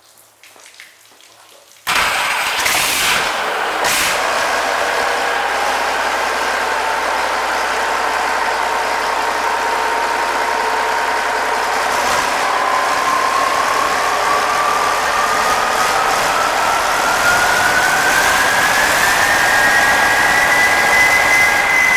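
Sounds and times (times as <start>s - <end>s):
high whine rising in pitch: 3.2s - 21.9s
marine diesel engine idling: 3.3s - 21.9s.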